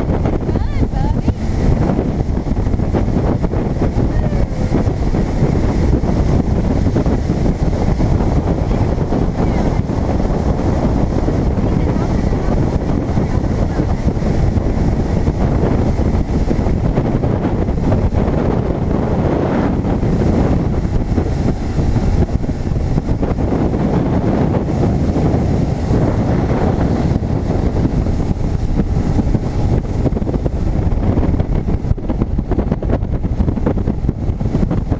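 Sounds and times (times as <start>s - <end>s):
boat motor: 0.0s - 34.9s
spray rushing along hull: 0.0s - 34.9s
wind rumble on microphone: 0.0s - 34.9s.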